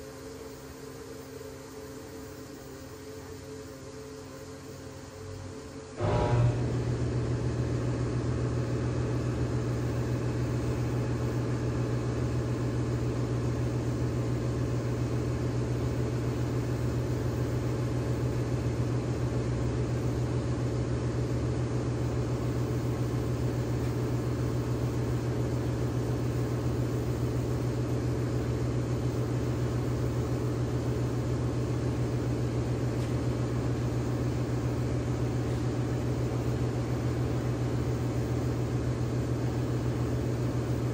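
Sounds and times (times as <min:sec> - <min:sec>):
machine hum with low drone: 0:00.0 - 0:40.9.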